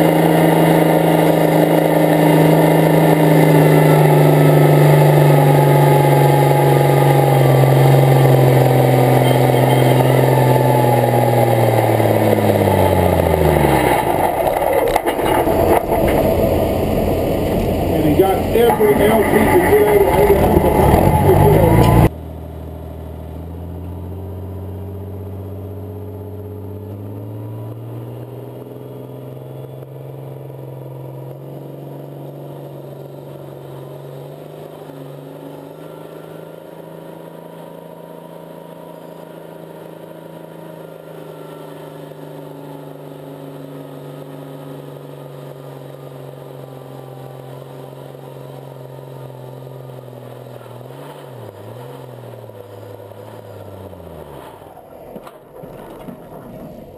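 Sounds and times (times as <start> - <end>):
tractor engine under full load: 0.0 - 56.9.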